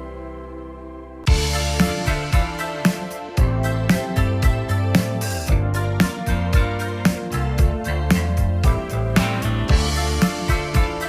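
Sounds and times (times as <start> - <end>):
instrumental music with plucked guitar: 0.0 - 11.0
steady beat: 1.3 - 11.0.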